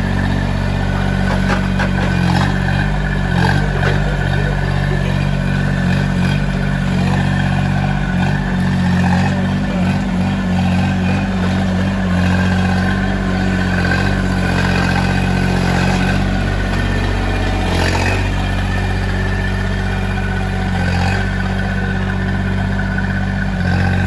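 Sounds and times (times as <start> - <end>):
excavator engine running: 0.0 - 24.0
excavator tracks clatter: 0.2 - 24.0.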